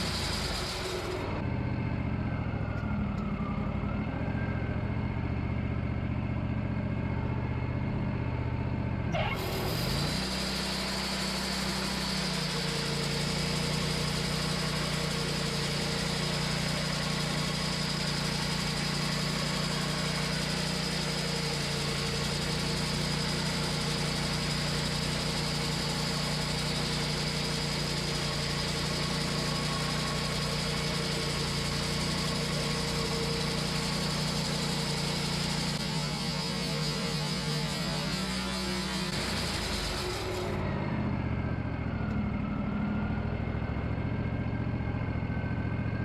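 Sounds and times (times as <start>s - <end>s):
sawmill engine humming: 0.0s - 46.0s.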